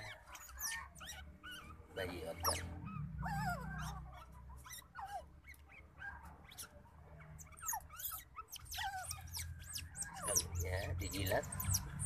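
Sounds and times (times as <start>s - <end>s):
otter pups squeaking: 0.0s - 12.0s.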